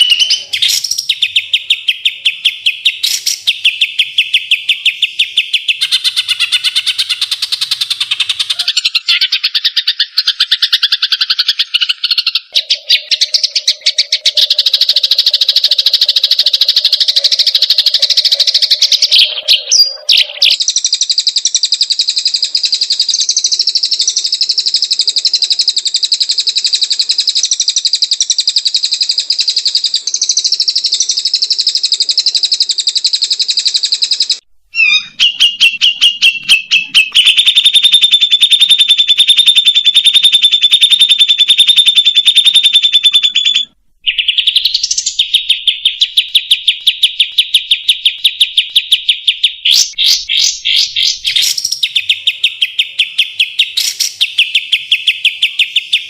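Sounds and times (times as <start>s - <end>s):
songbird buzzy trills: 0.0s - 56.0s.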